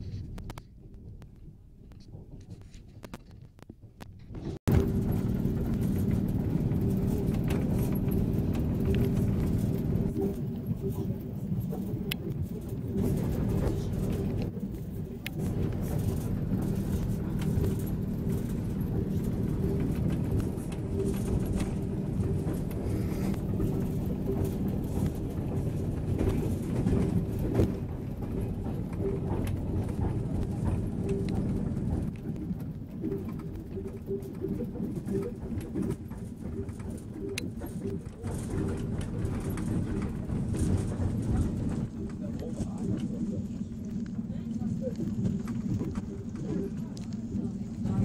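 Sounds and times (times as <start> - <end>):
train rumbling on track: 4.2 - 48.0.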